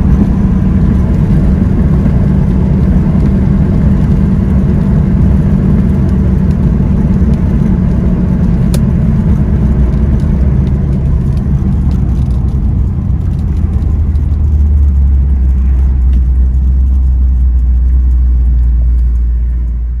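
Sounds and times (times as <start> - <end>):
deep engine exhaust rumble: 0.0 - 20.0.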